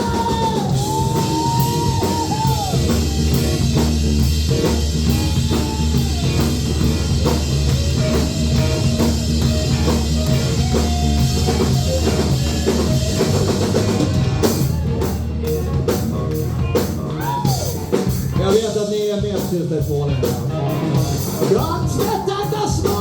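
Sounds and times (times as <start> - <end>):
bass guitar: 0.0 - 23.0
drum kit beat: 0.0 - 23.0
electric guitar: 0.0 - 23.0.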